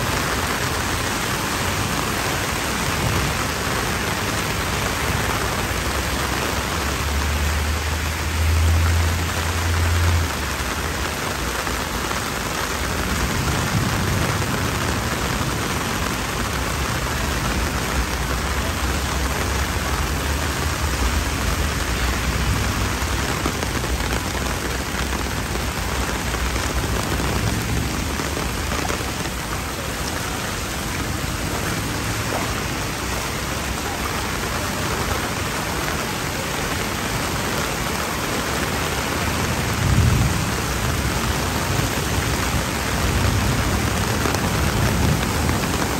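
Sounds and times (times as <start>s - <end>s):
torrential rain on pavement: 0.0s - 45.9s.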